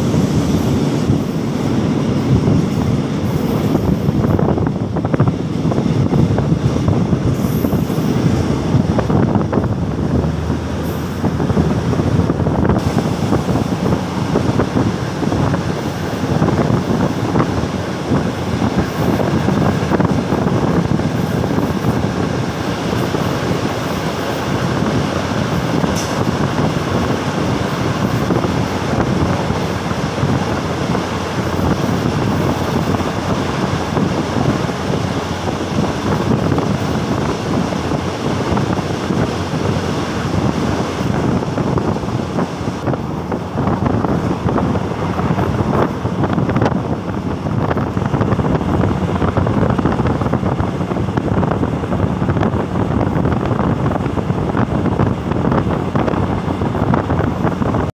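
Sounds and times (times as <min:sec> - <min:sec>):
freight train passing: 0:00.0 - 0:57.9
train carriage running on track: 0:00.0 - 0:57.9
wind buffeting microphone: 0:00.0 - 0:57.9.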